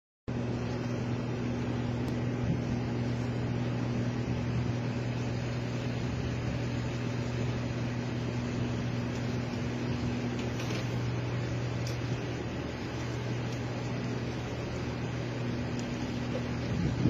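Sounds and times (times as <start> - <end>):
car cabin drone: 0.3 - 17.0.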